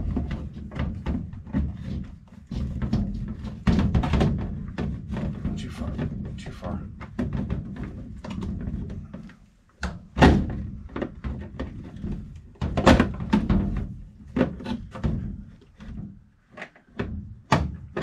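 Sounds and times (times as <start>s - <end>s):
plastic pump knocking and clunking: 0.0s - 18.0s.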